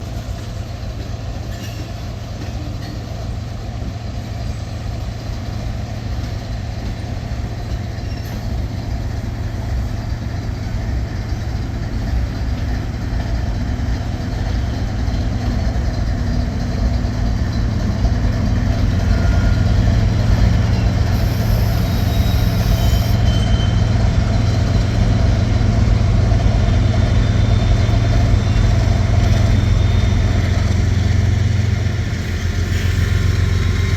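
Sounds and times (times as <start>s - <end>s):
diesel locomotive engine rumble: 0.0s - 33.9s.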